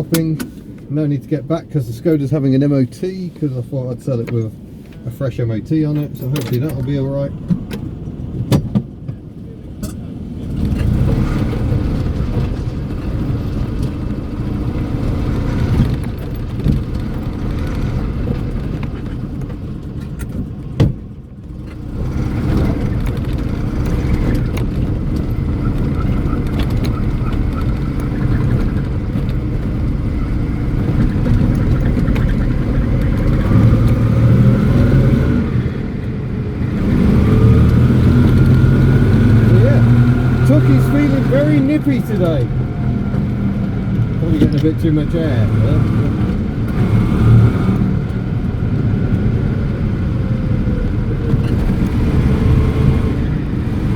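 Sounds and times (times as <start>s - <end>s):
small car engine under way: 6.0s - 53.9s.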